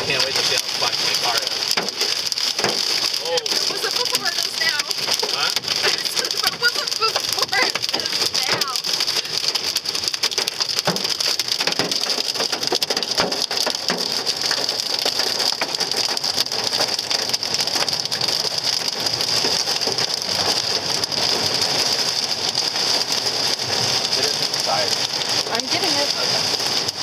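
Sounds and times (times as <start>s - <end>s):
hail and rain on a car roof: 0.0s - 27.0s.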